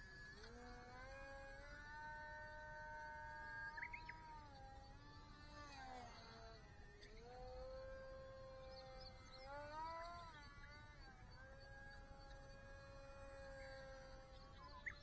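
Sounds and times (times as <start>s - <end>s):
rc plane motor whine: 0.0s - 15.0s.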